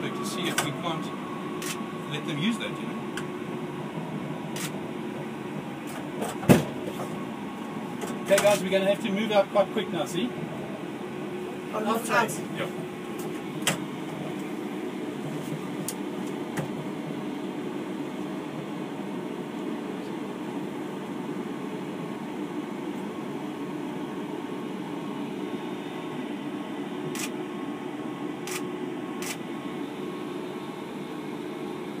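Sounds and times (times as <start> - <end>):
electric train hum and hiss: 0.0 - 32.0.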